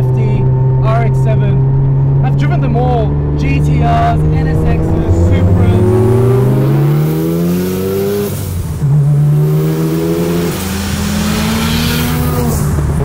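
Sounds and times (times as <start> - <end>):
rotary engine accelerating: 0.0 - 13.0.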